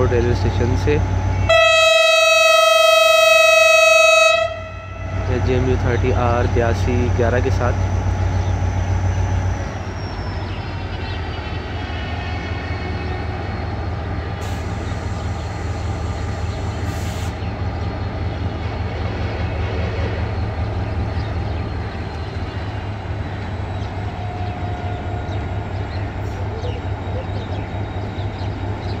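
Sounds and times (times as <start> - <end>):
locomotive engine drone: 0.0 - 29.0.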